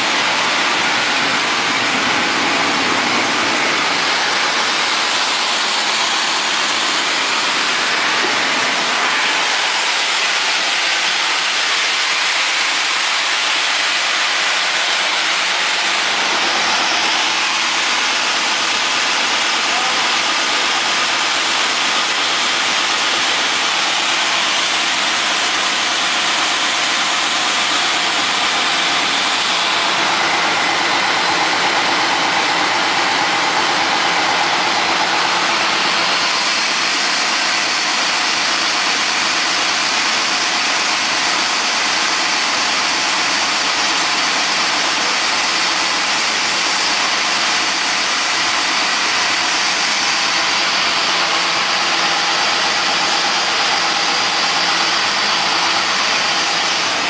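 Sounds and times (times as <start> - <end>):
belt sander running: 0.0 - 57.0.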